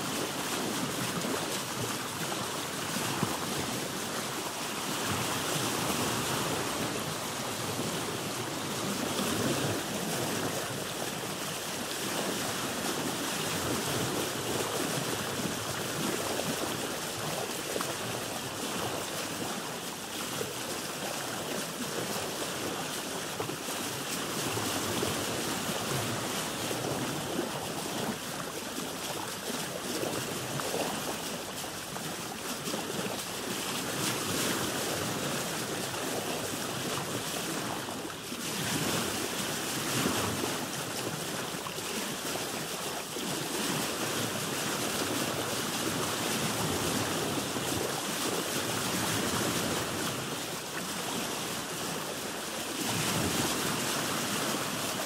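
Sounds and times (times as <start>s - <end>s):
waves splashing against a boat: 0.0s - 55.0s.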